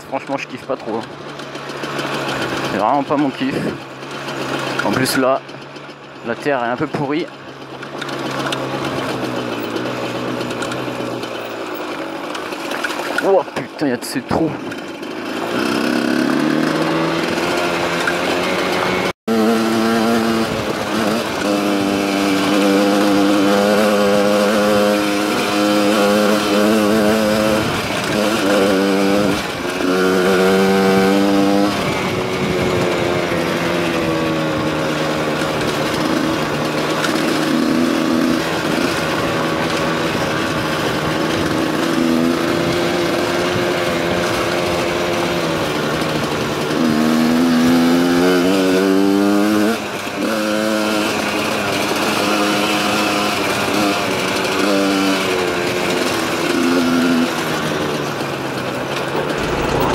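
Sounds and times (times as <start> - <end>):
dirt bike engine revving: 0.0 - 13.7, 14.3 - 59.9.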